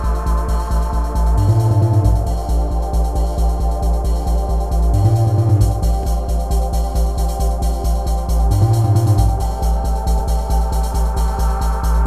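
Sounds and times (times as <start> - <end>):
fast kick-drum beat: 0.0 - 12.0
organ-like synth chords: 0.0 - 12.0.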